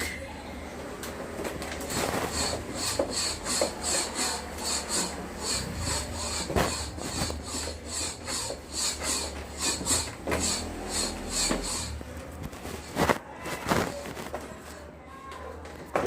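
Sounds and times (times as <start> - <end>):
rhythmic rubbing or scraping: 1.5 - 14.8.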